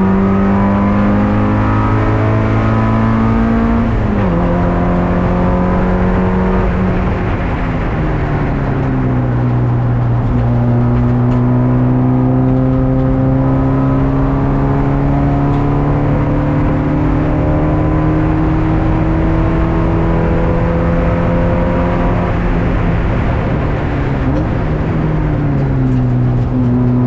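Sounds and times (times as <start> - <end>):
race car engine pulling hard: 0.0 - 27.0.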